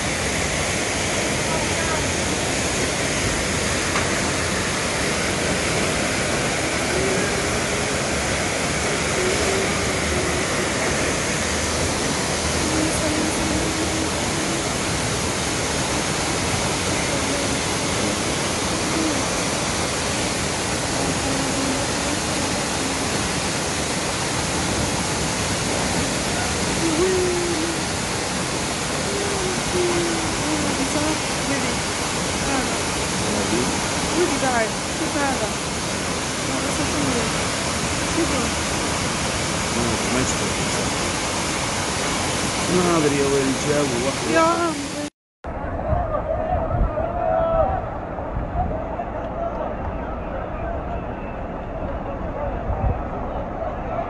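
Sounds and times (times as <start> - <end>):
floodwater rushing: 0.0 - 45.6.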